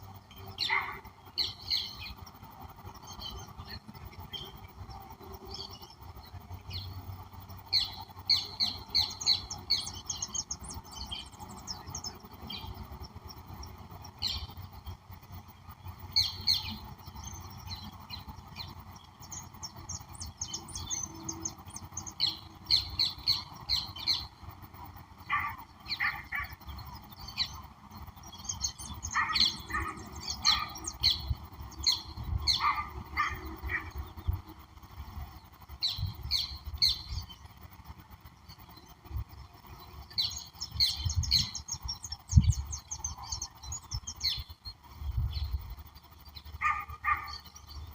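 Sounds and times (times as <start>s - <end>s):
birds chirping: 0.0s - 47.9s
lower bird calls: 0.3s - 37.8s, 38.4s - 47.9s.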